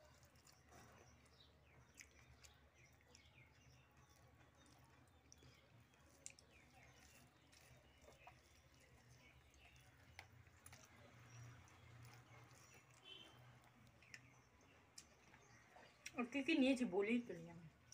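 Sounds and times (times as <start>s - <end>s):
fingers mixing food on plate: 0.0s - 17.9s.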